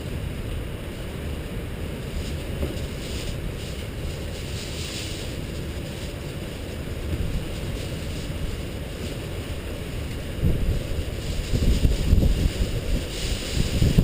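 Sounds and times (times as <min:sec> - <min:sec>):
rain hiss: 0:00.0 - 0:14.0
wind buffeting microphone: 0:00.0 - 0:14.0.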